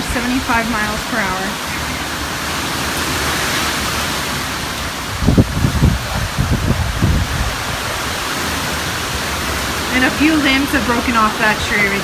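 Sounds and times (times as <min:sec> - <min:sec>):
wind and rain rushing: 0:00.0 - 0:12.0
wind buffeting microphone: 0:00.0 - 0:12.0.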